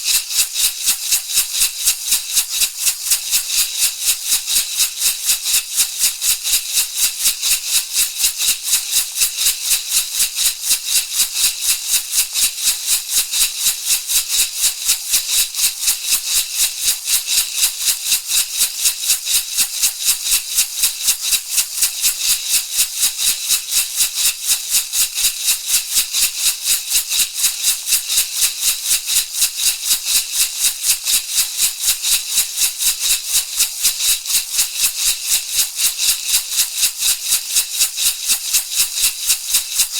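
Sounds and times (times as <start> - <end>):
rattle shaken rhythmically: 0.0 - 39.9.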